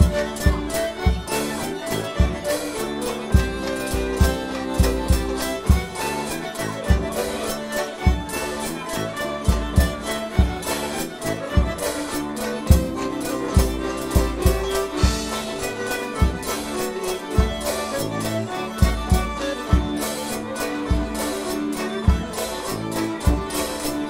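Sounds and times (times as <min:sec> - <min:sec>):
drum kit beat: 0:00.0 - 0:24.0
folk dance band playing: 0:00.0 - 0:24.0.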